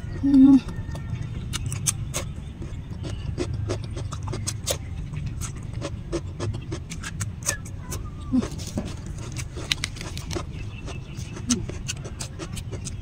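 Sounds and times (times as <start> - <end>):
chewing crunchy cucumber: 0.2 - 13.0.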